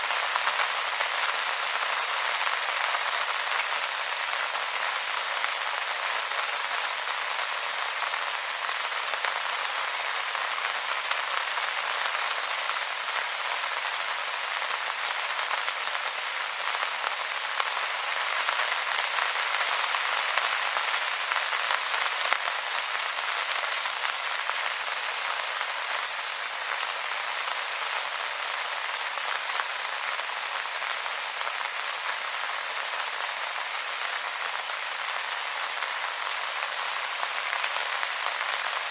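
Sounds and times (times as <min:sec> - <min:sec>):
rain falling on wet leaves: 0:00.0 - 0:38.9.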